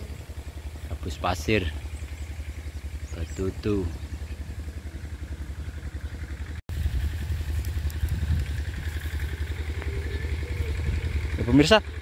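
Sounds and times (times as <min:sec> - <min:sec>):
engine throbbing: 0:00.0 - 0:12.0.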